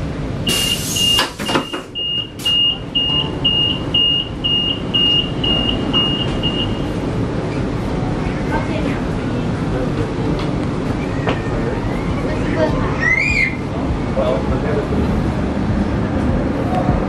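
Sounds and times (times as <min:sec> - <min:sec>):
moving train rumble: 0:00.0 - 0:17.0.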